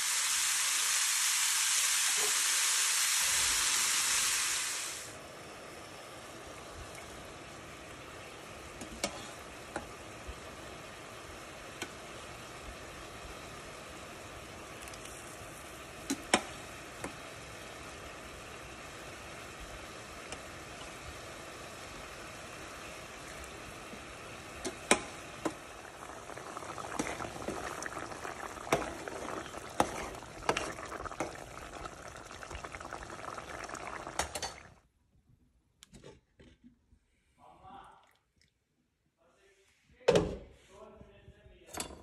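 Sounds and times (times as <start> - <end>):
pot boiling and bubbling: 0.0 - 34.9.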